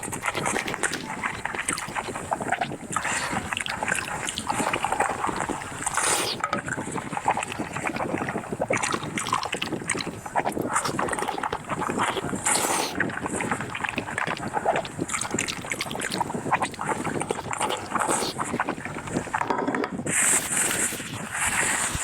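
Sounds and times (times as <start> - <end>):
chewing and mouth smacking: 0.0 - 22.0.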